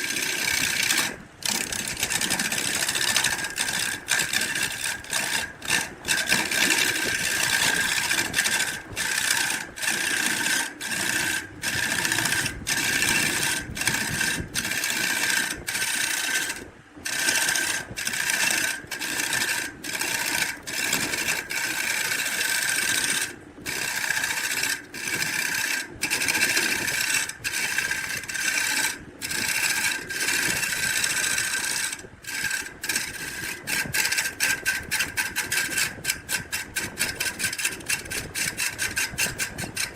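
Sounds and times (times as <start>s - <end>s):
power tool rasping wood: 0.0s - 39.9s.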